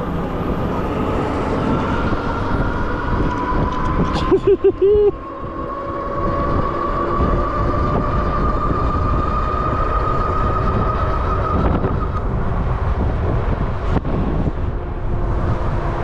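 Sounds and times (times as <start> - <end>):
electric motor whine: 0.0 - 16.0
wind and road rumble: 0.0 - 16.0.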